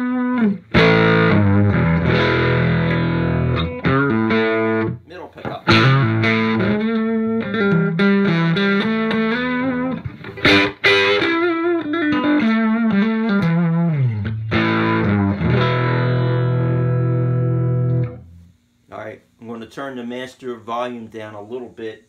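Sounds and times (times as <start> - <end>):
guitar chord ringing: 0.0 - 5.0, 5.6 - 18.5
electric guitar lead lines: 0.0 - 18.6.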